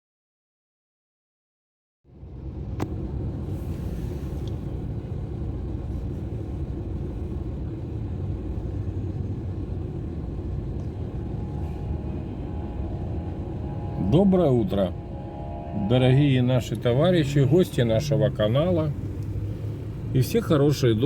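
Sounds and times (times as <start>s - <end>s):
car road and engine rumble: 2.1s - 21.0s.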